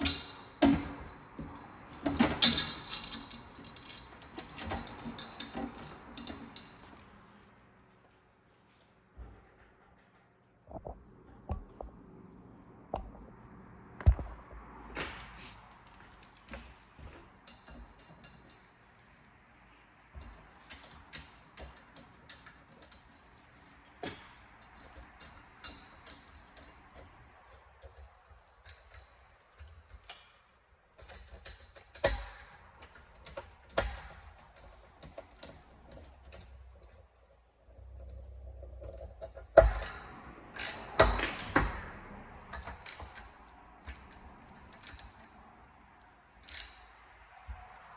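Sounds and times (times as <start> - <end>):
tools and parts clicking and knocking: 0.0 - 7.2, 15.0 - 19.4, 20.0 - 47.9.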